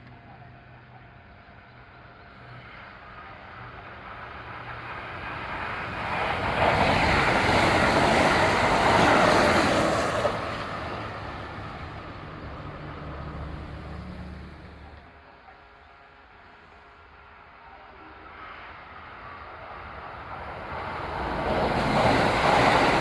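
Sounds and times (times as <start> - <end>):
electric train rumbling past: 1.7 - 23.0.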